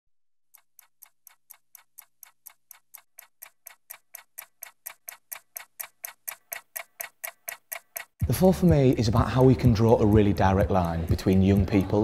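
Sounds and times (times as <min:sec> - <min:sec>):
fast even ticking: 0:00.5 - 0:11.2.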